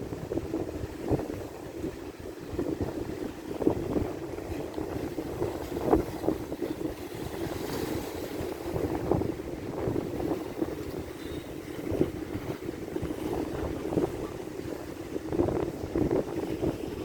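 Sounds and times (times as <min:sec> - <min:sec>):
ocean waves washing on shore: 0:00.0 - 0:17.0
wind buffeting microphone: 0:00.0 - 0:17.0.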